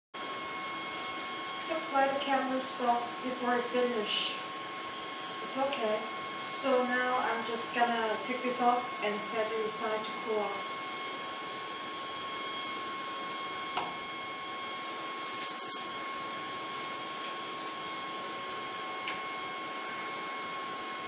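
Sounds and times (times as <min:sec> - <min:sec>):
printer fans humming and whining: 0:00.2 - 0:21.0.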